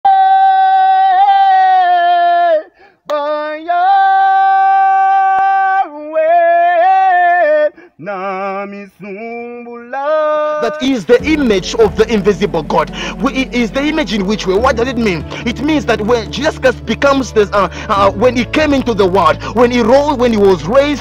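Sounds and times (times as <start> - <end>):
person singing unaccompanied: 0.0 - 21.0.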